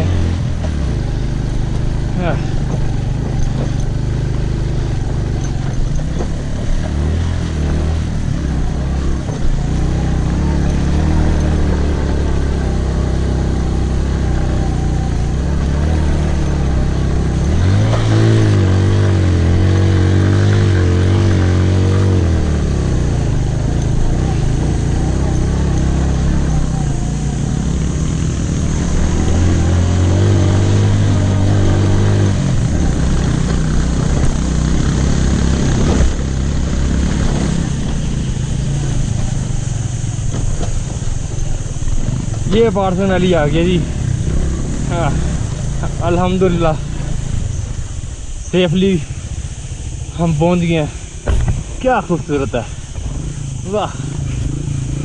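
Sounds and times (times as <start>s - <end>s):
motorcycle engine: 0.0s - 55.0s
wind and road noise: 0.0s - 55.0s.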